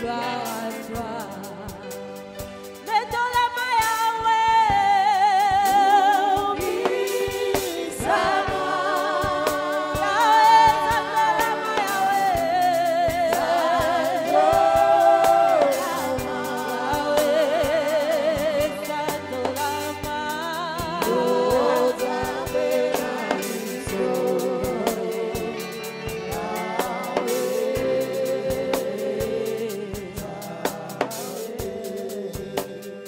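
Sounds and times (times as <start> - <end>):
gospel band accompaniment: 0.0 - 33.0
voices singing with vibrato: 4.9 - 33.0.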